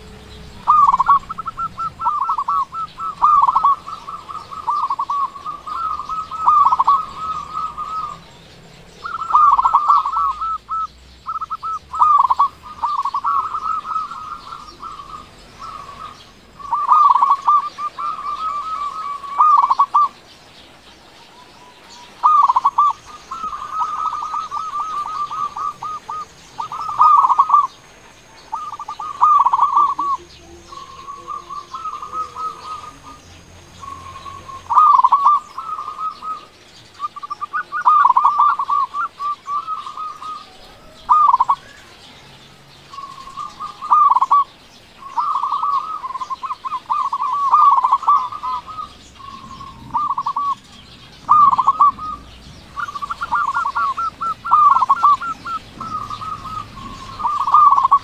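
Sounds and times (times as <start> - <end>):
dove cooing: 0.0 - 58.0.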